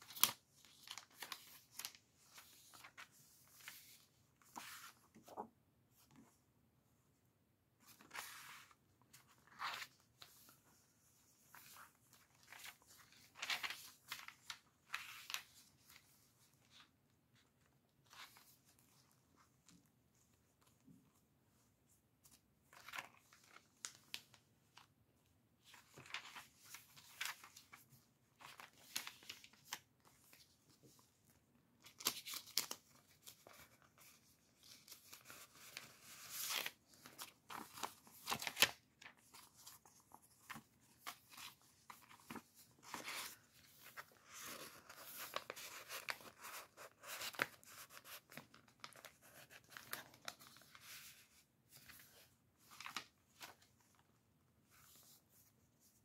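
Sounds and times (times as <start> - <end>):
paper pages rustling and crinkling: 0.0 - 6.3, 7.8 - 21.0, 22.2 - 24.9, 25.6 - 56.0.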